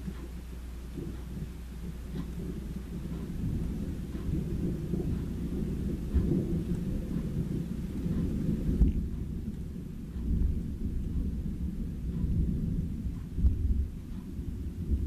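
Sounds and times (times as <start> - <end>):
light rain falling: 0.0 - 15.0
thunder rumbling: 0.0 - 15.0.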